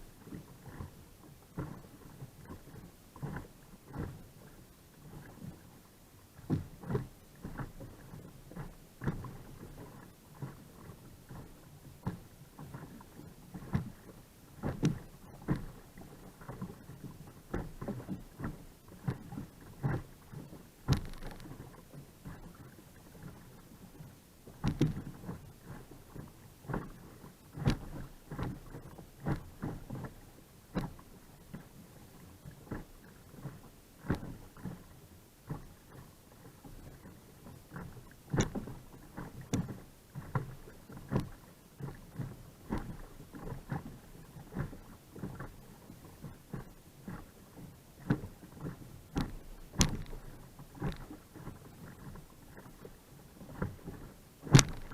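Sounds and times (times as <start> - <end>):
paddle splashing water: 0.0 - 54.9.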